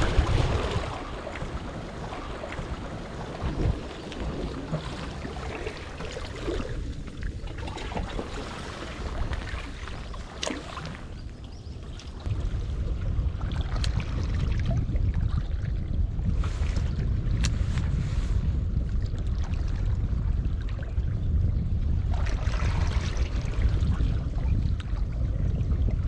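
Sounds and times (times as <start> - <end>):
sea wash: 0.0 - 26.0
wind rumbling on microphone: 0.0 - 26.0.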